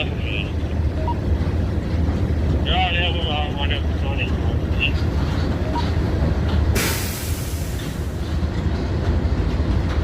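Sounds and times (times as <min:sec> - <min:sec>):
train rumbling past on rails: 0:00.0 - 0:10.0.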